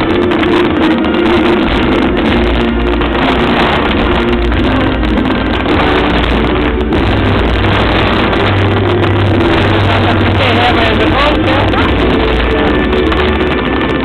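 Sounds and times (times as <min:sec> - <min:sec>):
fireworks rumble and crackle: 0:00.0 - 0:14.0
music soundtrack: 0:00.0 - 0:14.0.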